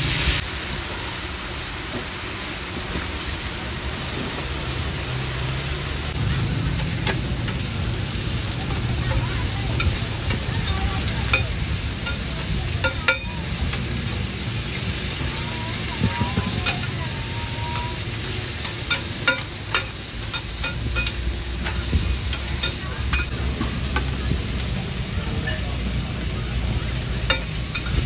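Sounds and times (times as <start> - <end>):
food sizzling on a griddle: 0.0 - 28.0.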